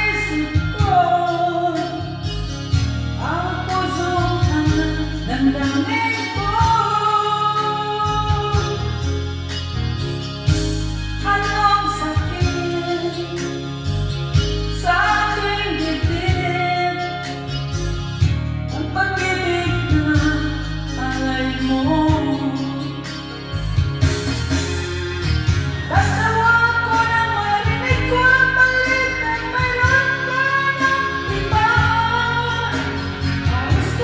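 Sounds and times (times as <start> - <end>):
woman singing: 0.0 - 9.3, 11.0 - 13.7, 14.3 - 17.8, 18.7 - 23.4, 24.5 - 34.0
bass drums and guitar: 0.0 - 34.0.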